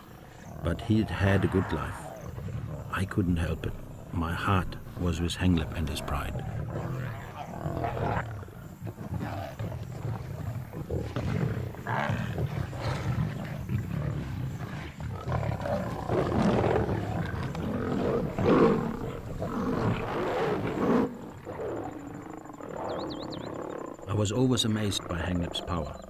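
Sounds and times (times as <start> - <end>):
lions growling and roaring: 0.0 - 26.0.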